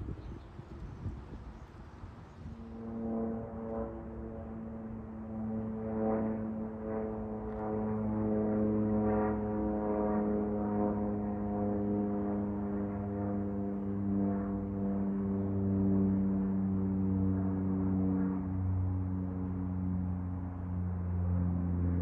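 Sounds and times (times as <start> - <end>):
aircraft engine drone: 0.0 - 22.0.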